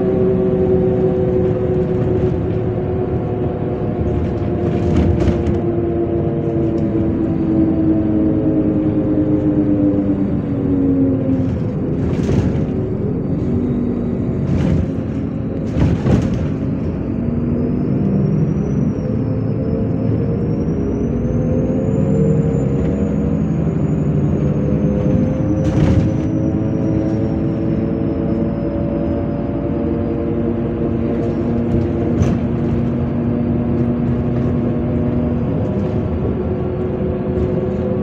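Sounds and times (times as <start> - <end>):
bus engine drone: 0.0 - 38.0
road rumble: 0.0 - 38.0.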